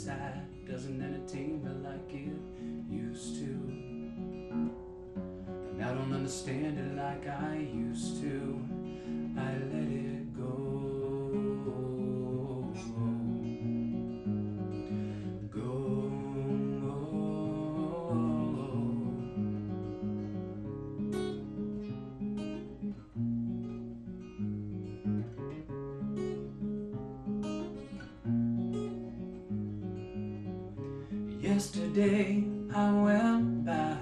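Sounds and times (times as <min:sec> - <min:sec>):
acoustic guitar playing chords: 0:00.0 - 0:34.0.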